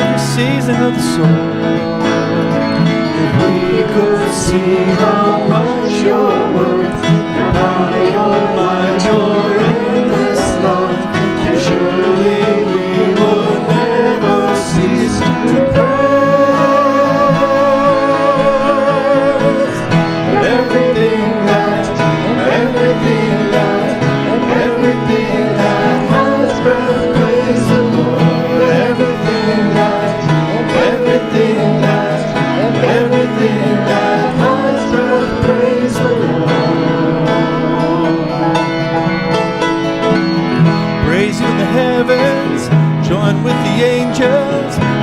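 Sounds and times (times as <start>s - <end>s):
plucked string instruments: 0.0s - 45.0s.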